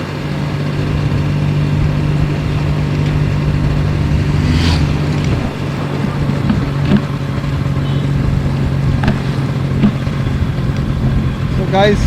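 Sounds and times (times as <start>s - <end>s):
two-stroke motorcycle engine running: 0.0s - 12.0s.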